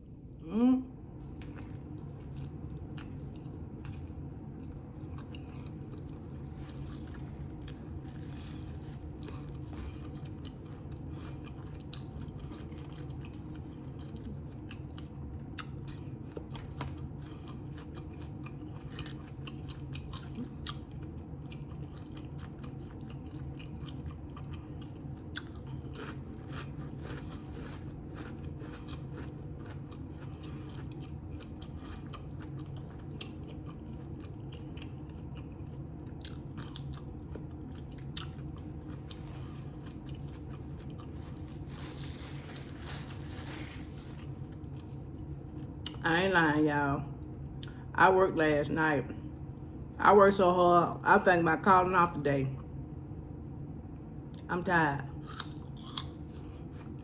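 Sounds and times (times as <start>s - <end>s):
steady low hum: 0.0s - 57.0s
person chewing crunchy food: 1.2s - 46.0s, 55.2s - 57.0s.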